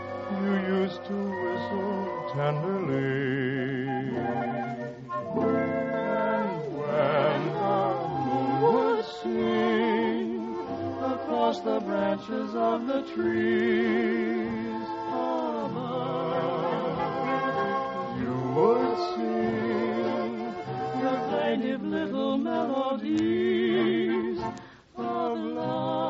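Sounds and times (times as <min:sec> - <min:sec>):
choir singing: 0:00.0 - 0:26.0
musical accompaniment: 0:00.0 - 0:26.0.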